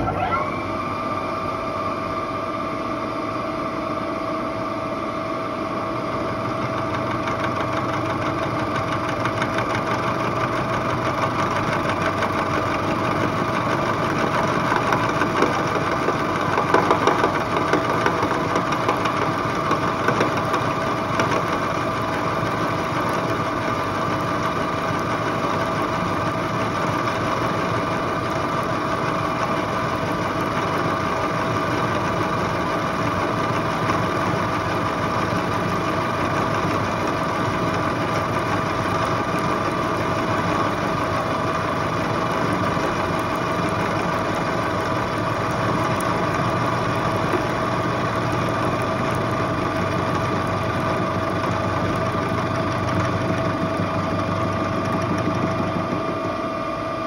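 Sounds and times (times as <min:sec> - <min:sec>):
milling machine whine: 0:00.0 - 0:57.0.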